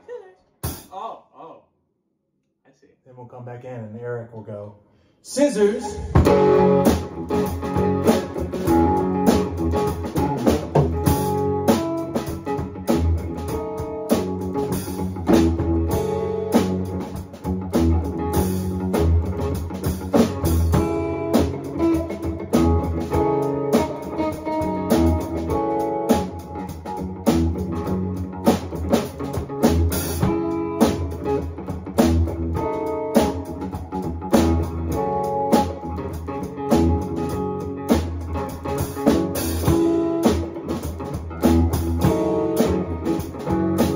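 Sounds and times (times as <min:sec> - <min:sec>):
drum kit: 0:00.6 - 0:01.2, 0:05.7 - 0:43.9
guitar: 0:05.2 - 0:43.9.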